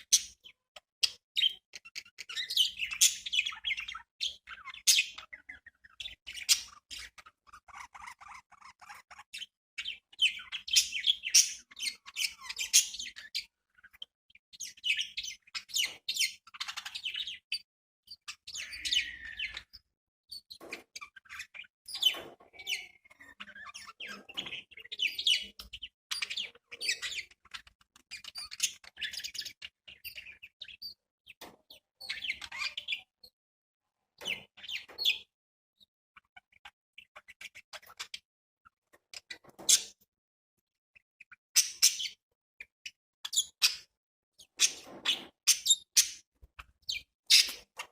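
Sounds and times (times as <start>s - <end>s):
budgerigars chirping and chattering: 0.0s - 33.3s, 34.0s - 40.1s, 41.2s - 47.9s.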